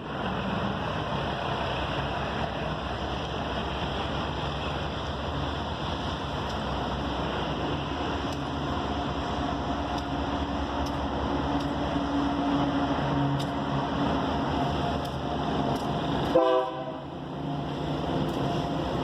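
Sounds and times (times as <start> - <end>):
freight train rumble: 0.0 - 19.0.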